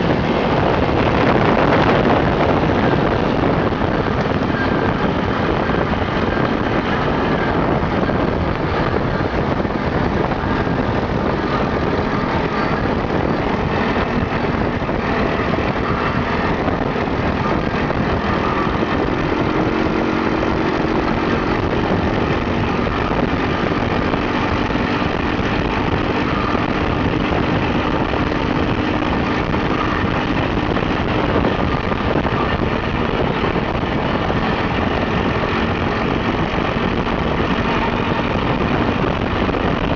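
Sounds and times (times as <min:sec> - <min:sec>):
dune buggy engine running: 0:00.0 - 0:39.9
tyre and wind noise: 0:00.0 - 0:39.9.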